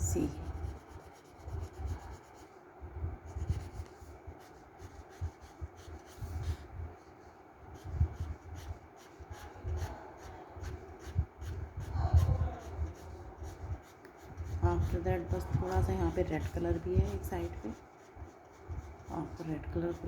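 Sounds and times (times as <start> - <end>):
scratchy shading strokes on paper: 0.0 - 2.6, 3.3 - 20.0.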